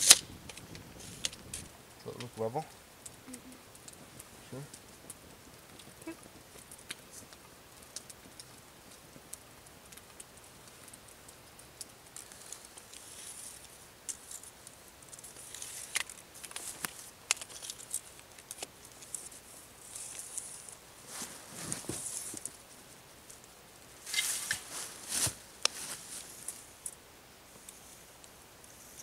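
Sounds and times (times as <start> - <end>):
rustling of dry leaves and twigs: 0.0 - 29.0.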